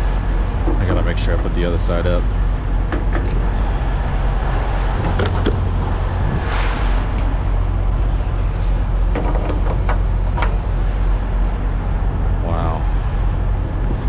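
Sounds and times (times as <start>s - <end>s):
diesel truck engine idling: 0.0s - 6.3s, 7.1s - 14.0s.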